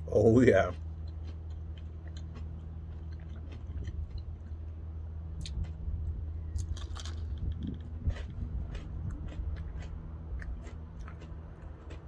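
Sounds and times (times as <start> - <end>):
crunchy chewing: 0.0 - 12.0
steady low hum: 0.0 - 12.0.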